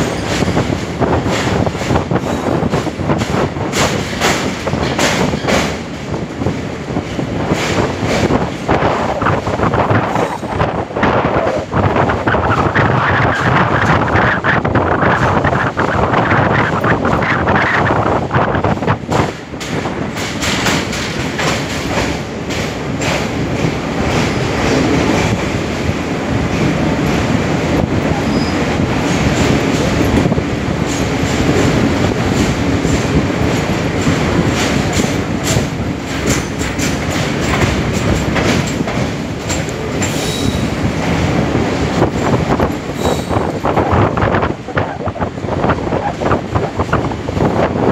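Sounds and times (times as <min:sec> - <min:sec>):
train wheels rumbling on track: 0:00.0 - 0:47.9
wheels clacking over rail joints: 0:00.0 - 0:47.9.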